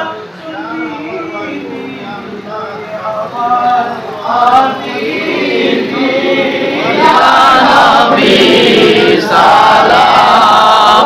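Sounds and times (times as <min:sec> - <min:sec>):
crowd of men chanting: 0:00.0 - 0:11.0.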